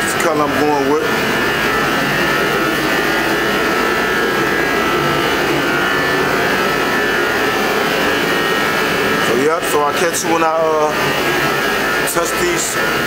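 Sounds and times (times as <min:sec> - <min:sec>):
machine droning with whine: 0:00.0 - 0:13.0.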